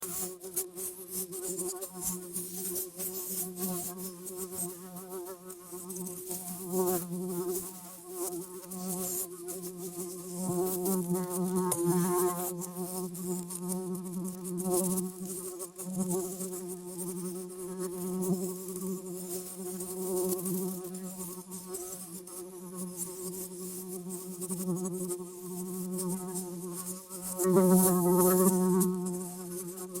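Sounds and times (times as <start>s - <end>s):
housefly buzzing: 0.1s - 30.0s.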